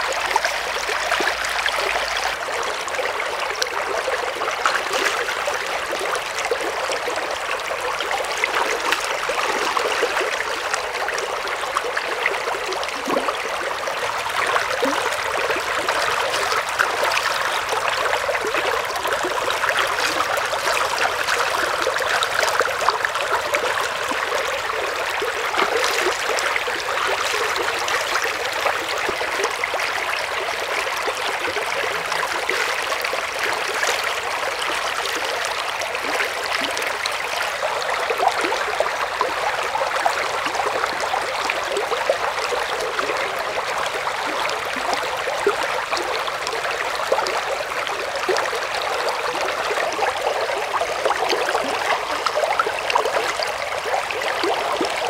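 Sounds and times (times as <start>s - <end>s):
shallow stream babbling: 0.0s - 55.0s
small water splashes: 0.0s - 55.0s.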